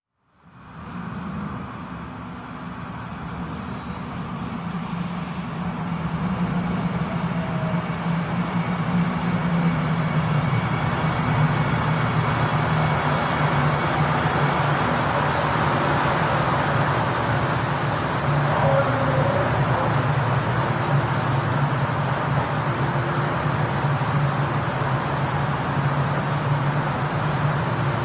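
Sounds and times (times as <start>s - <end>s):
metro train running: 0.2s - 28.0s.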